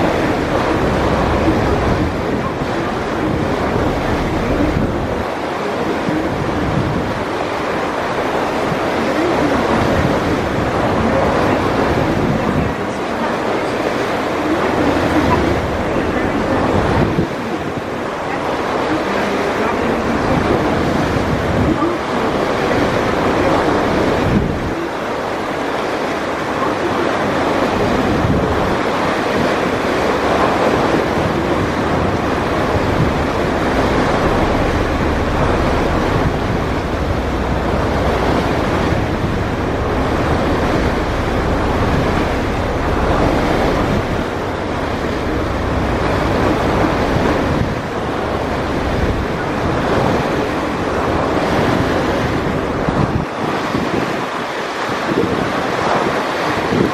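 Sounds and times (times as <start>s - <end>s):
rush of wind and water: 0.0s - 56.9s
wind buffeting microphone: 0.0s - 56.9s.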